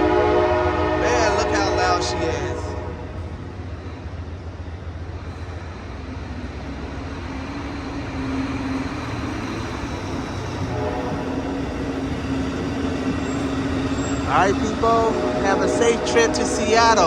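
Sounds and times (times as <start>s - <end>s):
train engine rumble: 0.0s - 17.0s.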